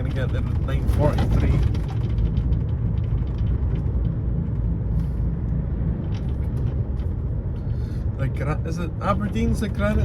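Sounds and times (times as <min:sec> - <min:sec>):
lorry engine rumble: 0:00.0 - 0:10.0
road noise: 0:00.0 - 0:10.0.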